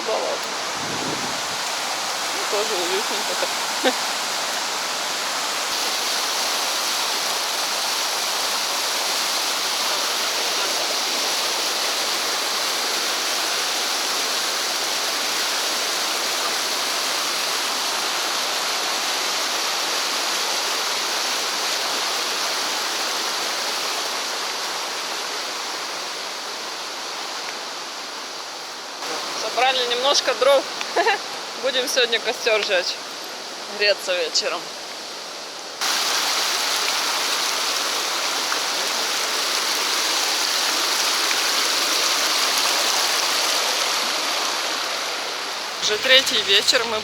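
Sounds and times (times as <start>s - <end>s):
river rushing over stones: 0.0s - 47.0s.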